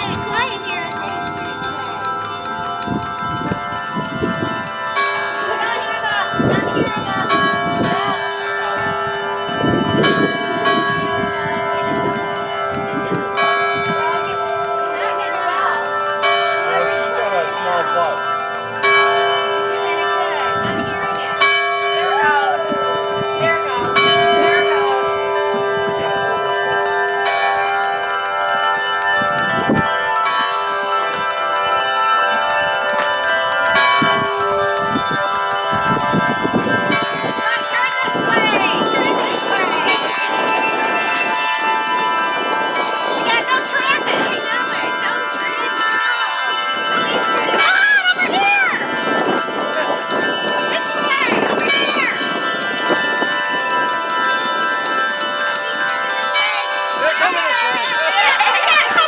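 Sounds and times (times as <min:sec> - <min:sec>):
church tower bells ringing: 0:00.0 - 0:59.0.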